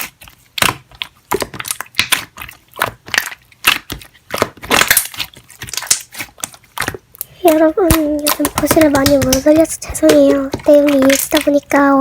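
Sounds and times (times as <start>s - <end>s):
slime crackling and popping: 0.0s - 12.0s.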